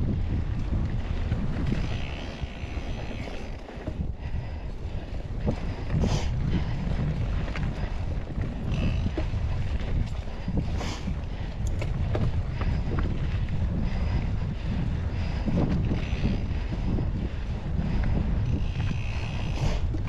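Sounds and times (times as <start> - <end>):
bike clicks and rattles: 0.0 - 20.0
mountain bike rolling on trail: 0.0 - 20.0
wind buffeting microphone: 0.0 - 20.0.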